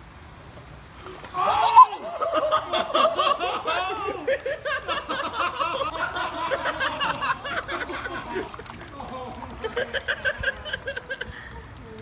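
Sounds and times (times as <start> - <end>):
people laughing: 1.4 - 12.0.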